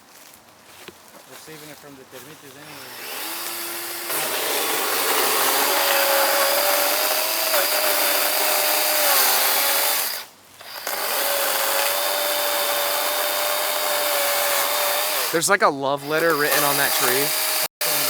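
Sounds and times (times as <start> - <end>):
electric chainsaw cutting wood: 2.6 - 15.4, 16.0 - 18.0.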